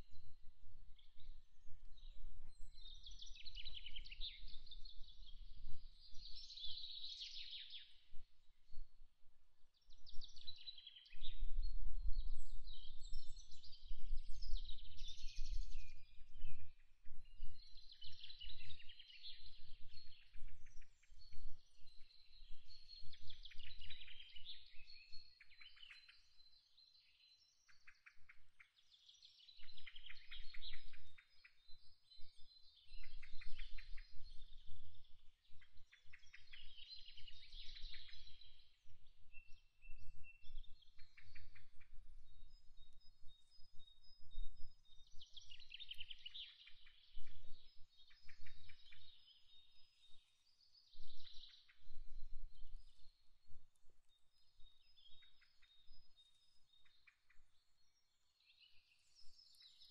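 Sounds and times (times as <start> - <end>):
small birds chirping and trilling: 9.8 - 59.9.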